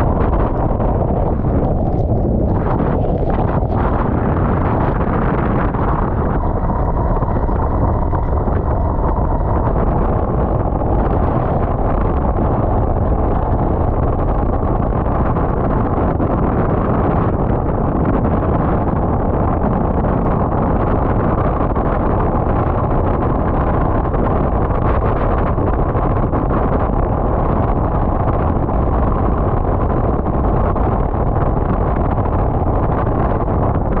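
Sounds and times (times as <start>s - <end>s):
motorcycle road noise: 0.0s - 34.0s
wind rushing on microphone: 0.0s - 34.0s.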